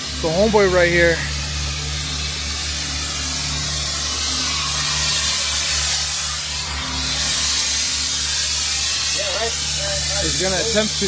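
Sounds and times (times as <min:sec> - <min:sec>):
cutting torch hissing: 0:00.0 - 0:11.0
low hum: 0:00.0 - 0:11.0.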